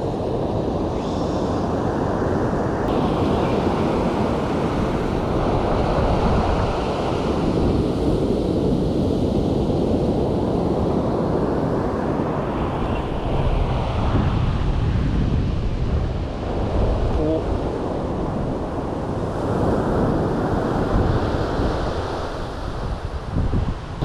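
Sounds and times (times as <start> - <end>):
ocean surf washing onto beach: 0.0 - 24.0
wind buffeting microphone: 0.0 - 24.0.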